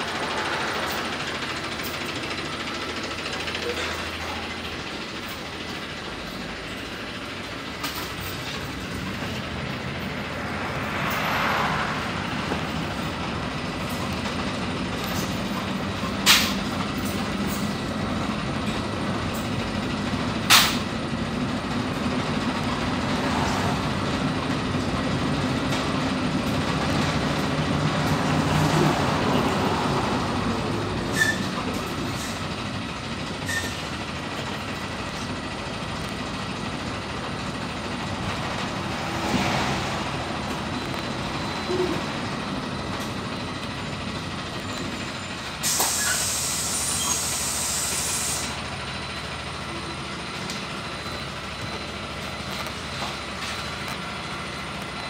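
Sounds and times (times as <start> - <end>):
bus engine running: 0.0 - 55.0
road and body noise: 0.0 - 55.0.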